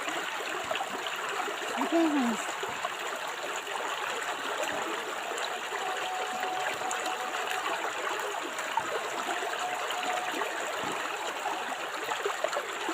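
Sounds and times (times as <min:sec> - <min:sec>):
river water flowing: 0:00.0 - 0:12.9.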